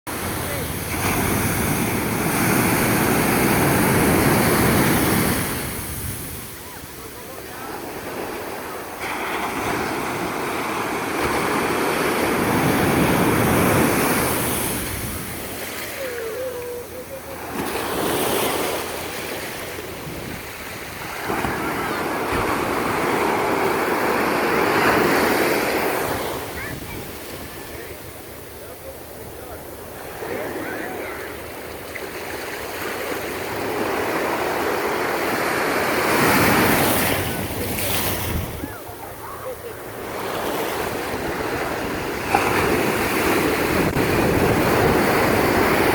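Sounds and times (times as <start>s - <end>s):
surf breaking on shore: 0.1s - 45.9s.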